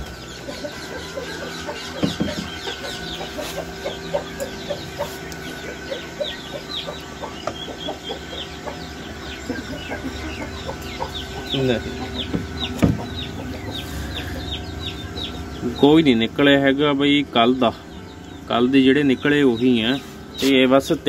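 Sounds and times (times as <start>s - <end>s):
chickens clucking: 0.0s - 21.0s
chicks peeping: 0.0s - 21.0s
steady hum: 0.0s - 21.0s.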